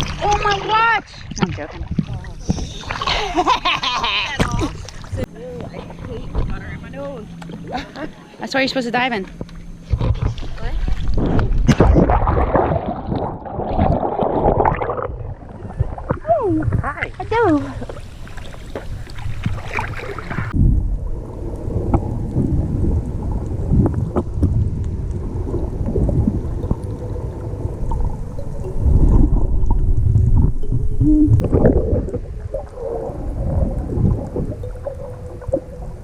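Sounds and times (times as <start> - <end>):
underwater low rumble and gurgling: 0.0 - 8.4, 9.0 - 36.0.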